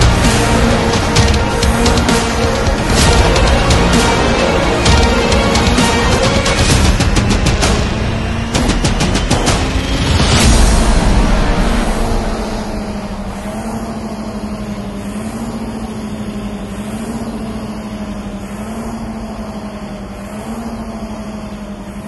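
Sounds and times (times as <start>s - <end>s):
rowing machine flywheel hum: 0.0s - 10.5s, 11.4s - 22.0s.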